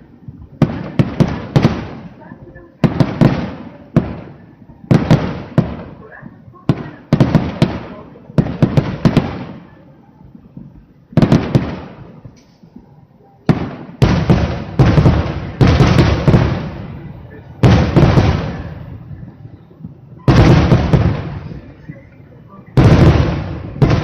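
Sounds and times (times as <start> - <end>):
firework crackle: 0.0 - 12.8, 13.5 - 24.0.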